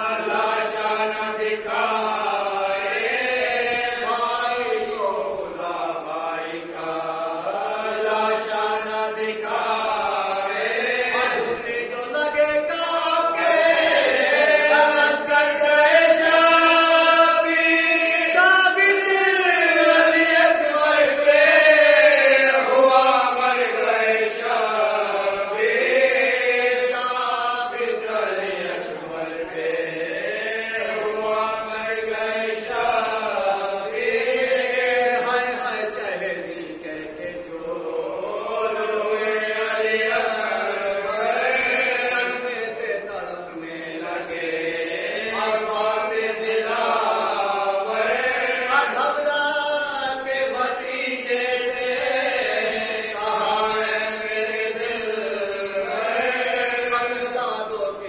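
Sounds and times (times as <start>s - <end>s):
men chanting in chorus: 0.0s - 58.0s.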